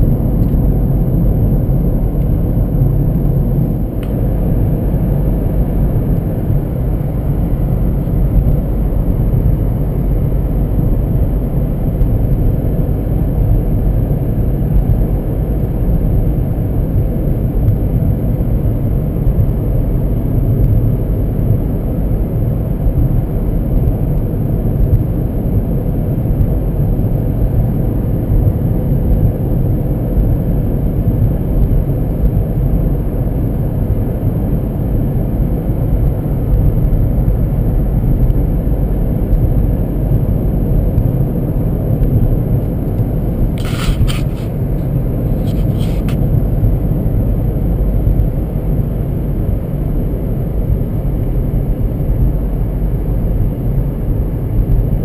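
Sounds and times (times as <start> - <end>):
car cabin road and engine rumble: 0.0 - 55.0.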